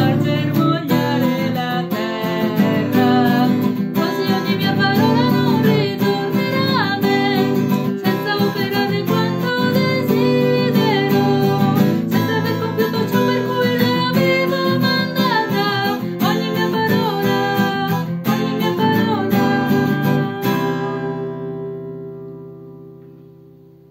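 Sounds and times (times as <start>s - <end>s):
woman singing a hymn: 0.0s - 21.2s
strummed acoustic guitar: 0.0s - 23.9s.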